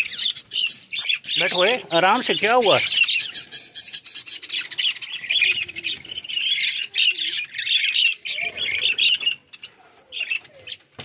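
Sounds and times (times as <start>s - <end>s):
budgerigars chattering: 0.0s - 9.5s.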